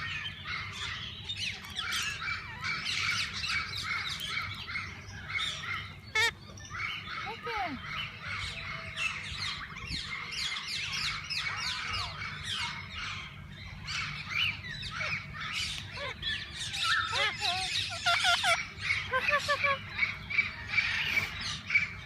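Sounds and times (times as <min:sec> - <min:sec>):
lower arching bird calls: 0:00.0 - 0:22.0
parakeets chattering: 0:00.0 - 0:22.0.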